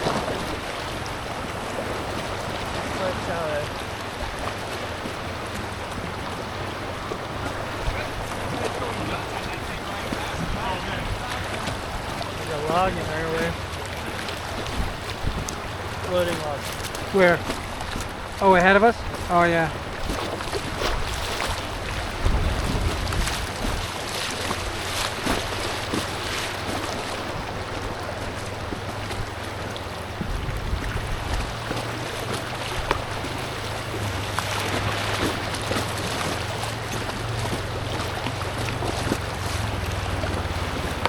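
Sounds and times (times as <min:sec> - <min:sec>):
creek water rushing: 0:00.0 - 0:41.0
short water splashes: 0:00.0 - 0:41.0
wind buffeting microphone: 0:00.0 - 0:41.0.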